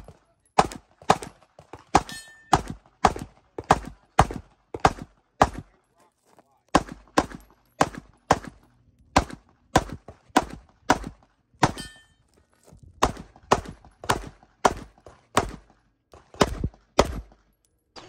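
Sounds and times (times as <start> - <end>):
pistol shots: 0.6 - 5.8, 6.7 - 12.1, 13.0 - 17.6.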